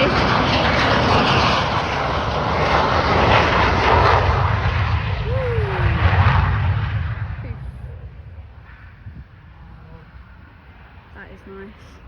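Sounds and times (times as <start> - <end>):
jet fighter roar: 0.0 - 12.0
wind rumble on microphone: 0.0 - 12.0.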